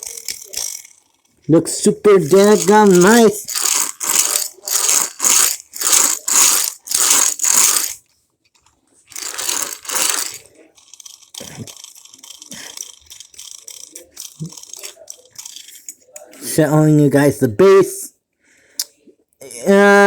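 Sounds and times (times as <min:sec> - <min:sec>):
toy parts clicking and knocking: 0:00.0 - 0:16.8
toy truck scraping rattles: 0:00.0 - 0:17.0.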